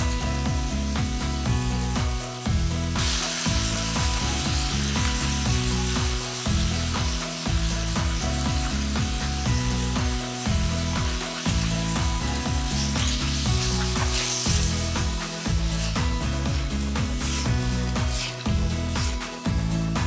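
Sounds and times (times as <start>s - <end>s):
food sizzling in a hot pan: 0.0s - 20.0s
music with heavy bass beat: 0.0s - 20.0s.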